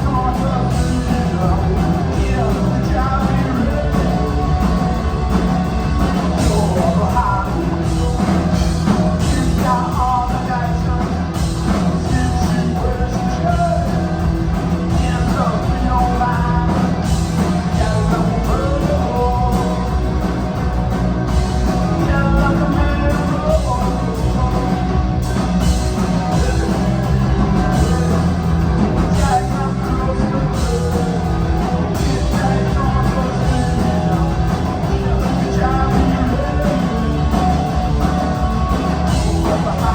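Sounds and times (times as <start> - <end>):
rock music with singing: 0.0 - 39.9.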